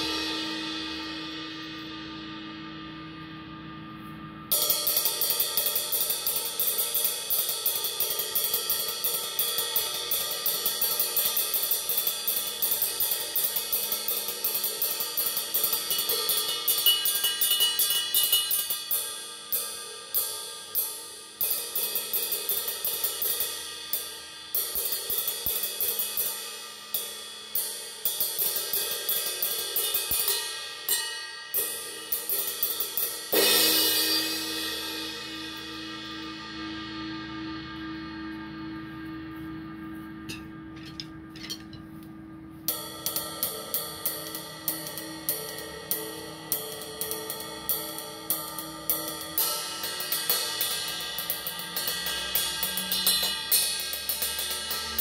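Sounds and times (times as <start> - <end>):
ride cymbal struck with drumstick: 0.0 - 3.2, 4.5 - 38.1, 42.7 - 55.0.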